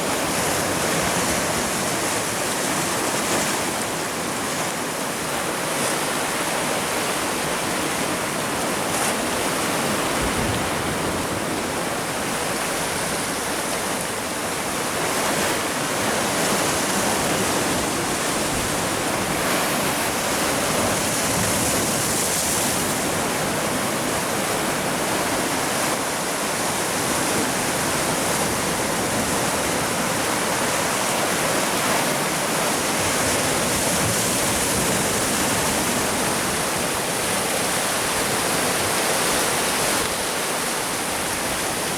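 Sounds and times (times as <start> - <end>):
sea surf washing on shore: 0.0 - 41.9.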